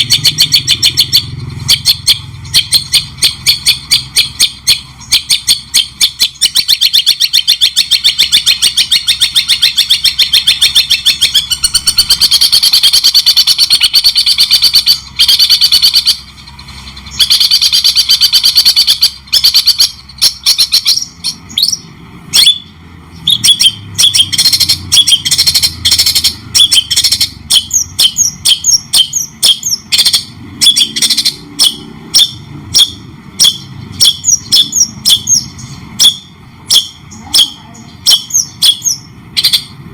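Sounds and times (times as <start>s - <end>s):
songbird chattering and chirping: 0.0s - 39.9s.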